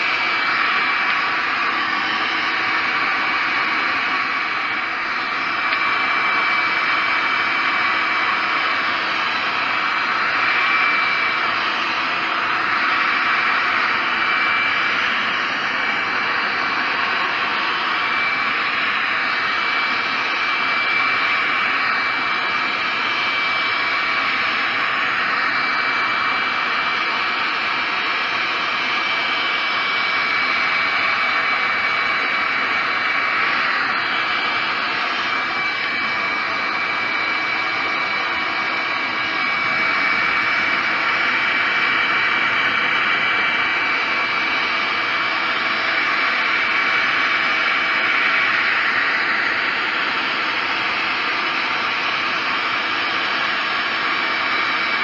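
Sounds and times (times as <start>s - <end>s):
heat gun blowing air: 0.0s - 27.2s, 28.9s - 54.9s
fan motor whine: 0.0s - 55.0s.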